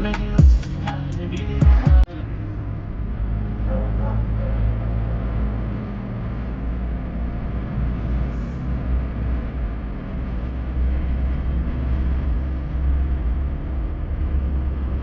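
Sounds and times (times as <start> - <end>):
car road and engine noise: 0.0 - 15.0
deep rumble: 0.0 - 15.0.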